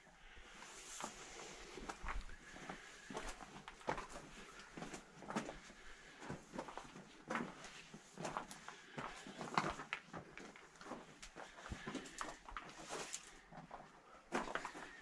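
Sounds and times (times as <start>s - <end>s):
footsteps on stone: 1.8s - 15.0s.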